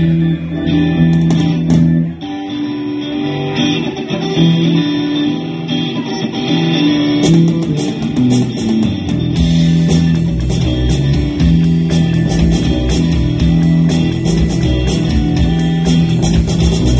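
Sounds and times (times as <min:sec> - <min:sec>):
electric guitar: 0:00.0 - 0:16.9
live rock band playing: 0:00.0 - 0:16.9.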